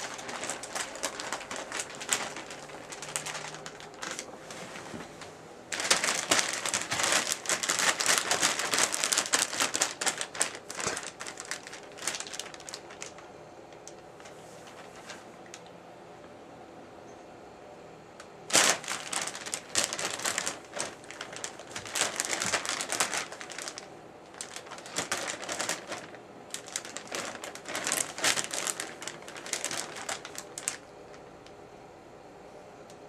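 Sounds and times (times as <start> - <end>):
plastic bag crinkling: 0.0 - 15.7, 18.5 - 31.5.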